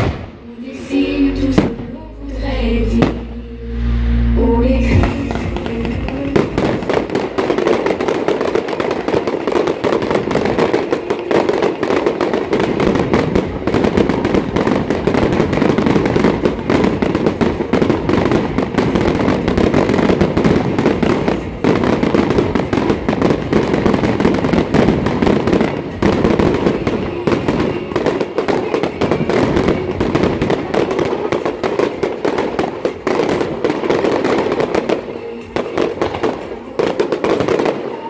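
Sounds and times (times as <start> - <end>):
fireworks bangs and crackles: 0.0 - 0.4, 1.6 - 2.0, 3.0 - 3.3, 4.9 - 38.0.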